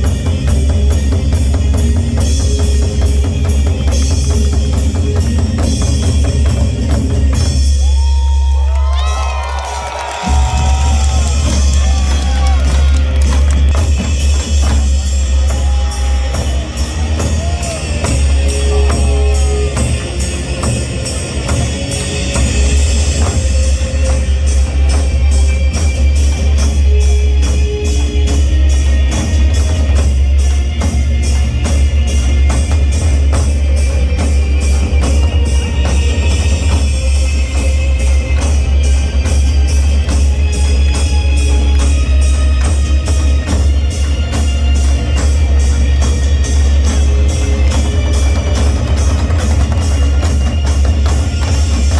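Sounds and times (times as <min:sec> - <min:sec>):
drums playing a driving rhythm: 0:00.0 - 0:51.9.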